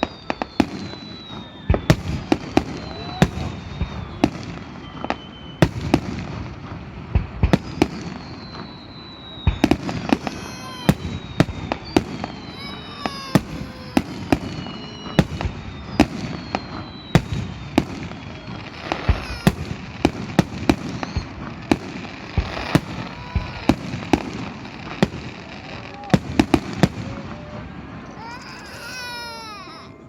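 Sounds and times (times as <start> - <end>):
fireworks bangs: 0.0 - 30.0
whistling fireworks: 0.0 - 30.0.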